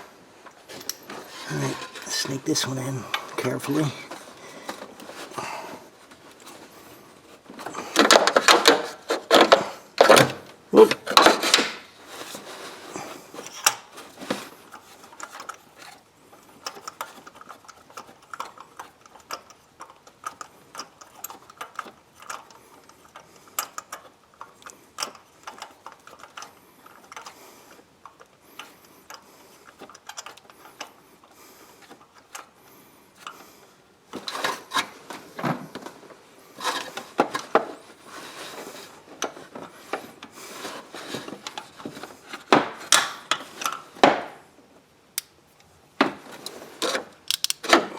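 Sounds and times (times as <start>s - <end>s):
tools tapping and rattling: 0.4s - 32.6s, 33.2s - 44.5s.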